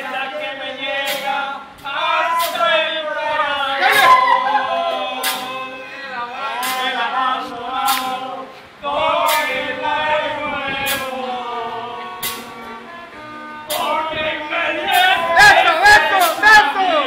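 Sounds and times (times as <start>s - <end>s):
men singing together: 0.0s - 17.0s.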